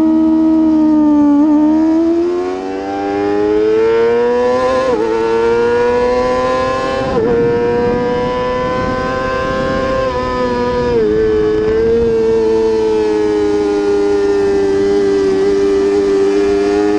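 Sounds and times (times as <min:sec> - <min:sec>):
motorcycle engine accelerating: 0:00.0 - 0:16.9.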